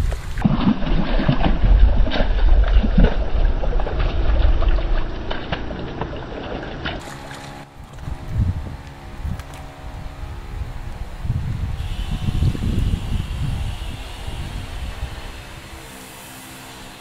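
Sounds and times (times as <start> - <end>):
low rumble: 0.0 - 15.4.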